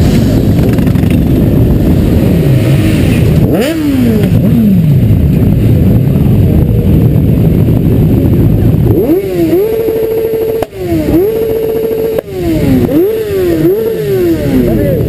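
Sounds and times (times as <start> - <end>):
motorcycle engine revving: 0.0 - 15.0
motorcycle engines running: 0.0 - 15.0.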